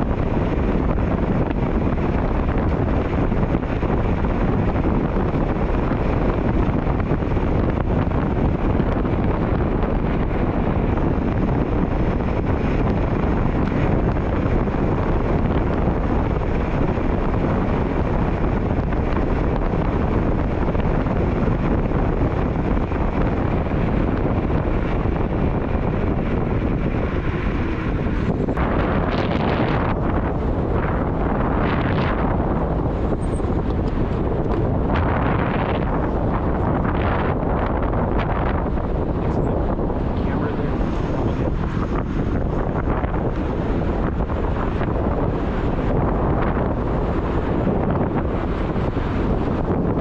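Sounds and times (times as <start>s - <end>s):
wind rushing over microphone: 0.0s - 50.0s.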